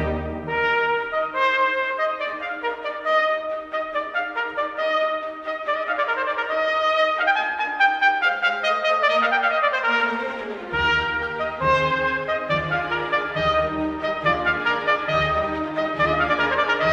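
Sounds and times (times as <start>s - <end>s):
instrumental music with held notes: 0.0s - 16.9s.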